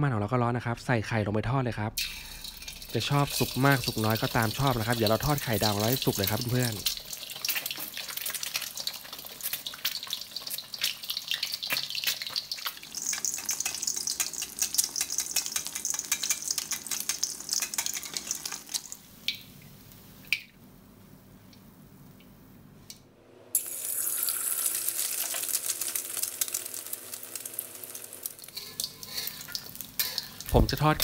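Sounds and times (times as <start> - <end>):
egg frying in hot oil: 2.0 - 20.5, 23.6 - 31.0.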